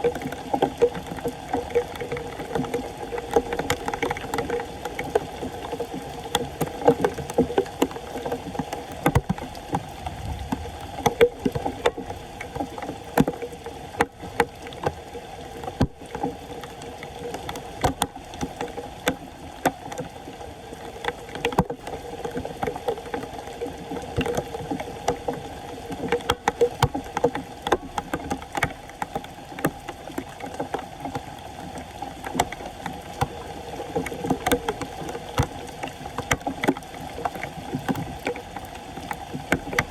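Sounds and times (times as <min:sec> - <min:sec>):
water splashing and sloshing: 0:00.0 - 0:39.9.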